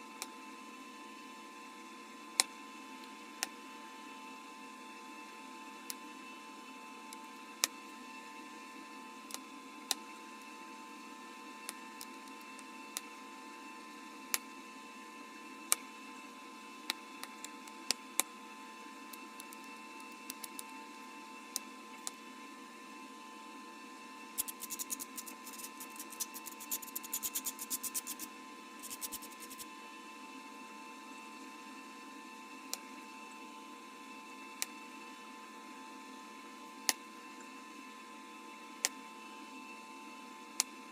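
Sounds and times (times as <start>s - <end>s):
steady electrical hum: 0.0s - 40.9s.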